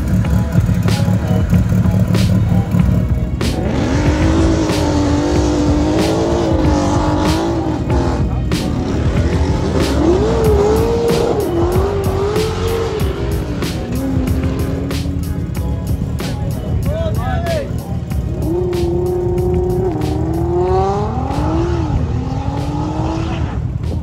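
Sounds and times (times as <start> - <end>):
background music with beat: 0.0 - 24.0
car engine revving high: 1.5 - 16.1, 18.3 - 24.0.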